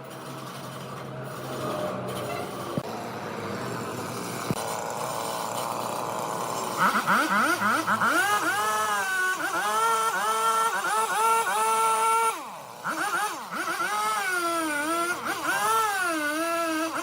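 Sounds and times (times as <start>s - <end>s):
motor revving and whining: 0.0s - 17.0s.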